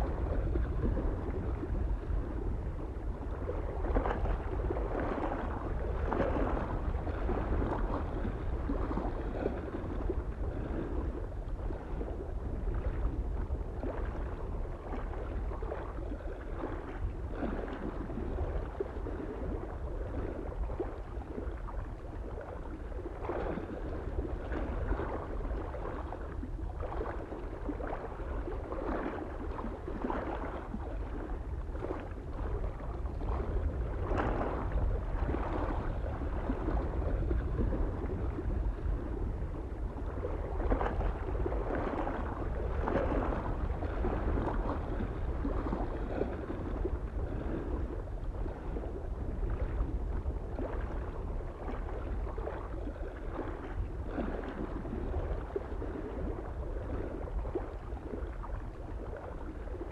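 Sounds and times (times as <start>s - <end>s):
lake waves lapping on shore: 0.0s - 59.9s
wind rumble on microphone: 0.0s - 59.9s.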